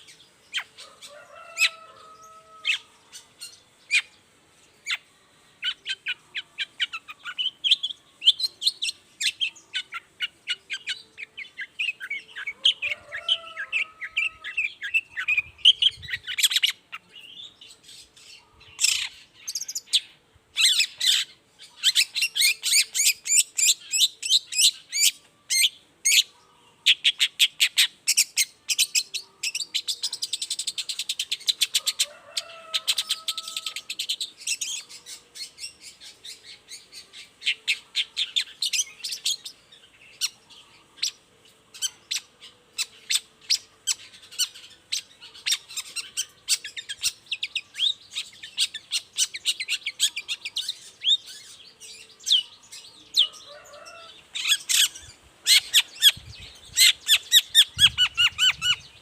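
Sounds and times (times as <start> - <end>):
bird chattering song: 4.8 - 32.1, 32.9 - 59.0.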